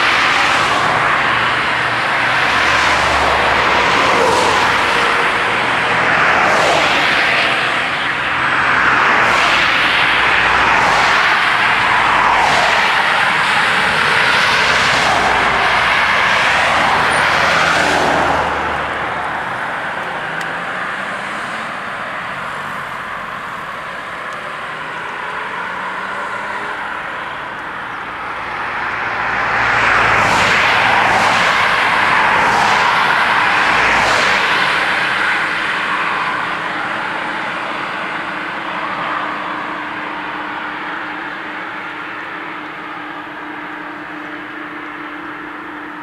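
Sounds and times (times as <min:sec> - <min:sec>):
cars passing: 0:00.0 - 0:46.0.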